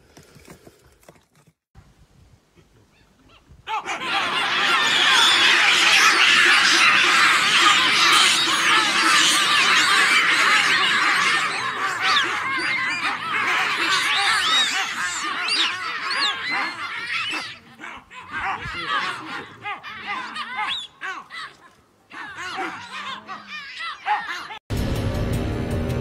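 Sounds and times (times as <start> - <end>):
baboons barking and screaming: 2.6 - 24.6.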